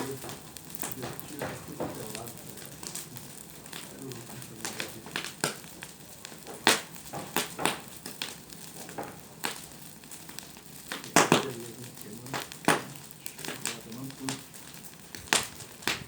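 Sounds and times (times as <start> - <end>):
dry brush crackling and snapping: 0.0 - 16.0.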